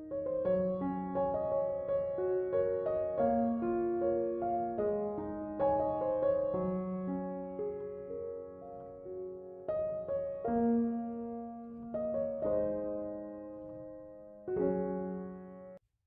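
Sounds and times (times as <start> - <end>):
slow piano chords: 0.0 - 15.8.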